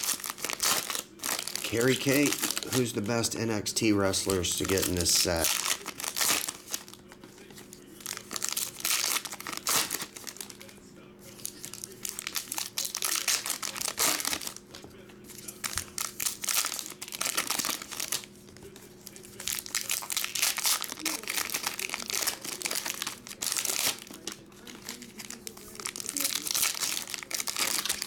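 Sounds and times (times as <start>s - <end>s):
foil wrappers tearing and crinkling: 0.0s - 28.0s.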